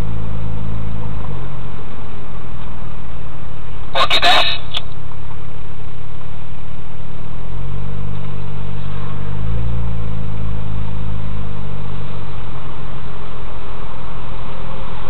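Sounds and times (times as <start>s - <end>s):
car engine pulling away: 0.0s - 3.9s, 4.8s - 15.0s.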